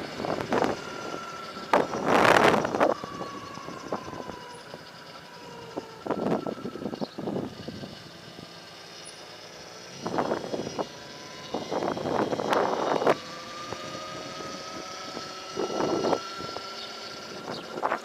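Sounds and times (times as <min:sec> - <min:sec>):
wind buffeting microphone: 0:00.0 - 0:08.1, 0:09.9 - 0:18.0
electric motorbike motor whine: 0:00.0 - 0:18.0.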